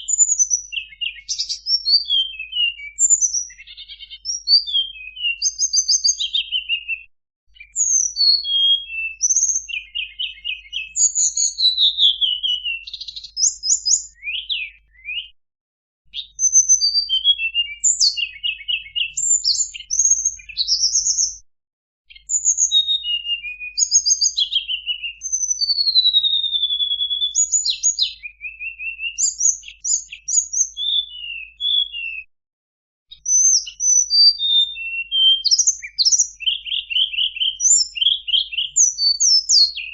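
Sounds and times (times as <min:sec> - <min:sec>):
songbird singing chirps and trills: 0:00.0 - 0:15.3, 0:16.1 - 0:21.4, 0:22.1 - 0:32.2, 0:33.1 - 0:39.9.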